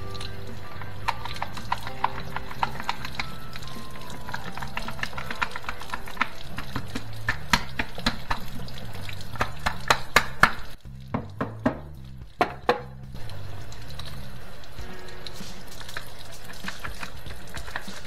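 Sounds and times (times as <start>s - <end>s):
faint music: 0.0s - 18.0s.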